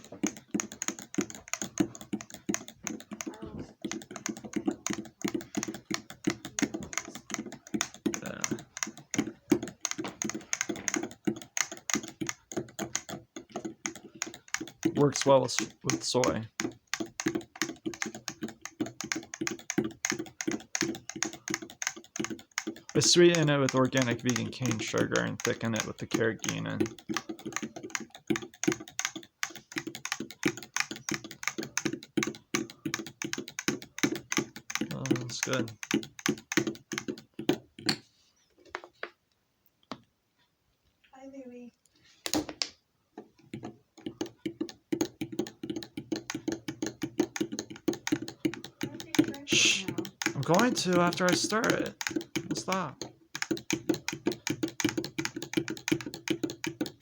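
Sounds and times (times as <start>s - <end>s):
rapid clicking and tapping: 0.0s - 38.0s, 42.3s - 57.0s.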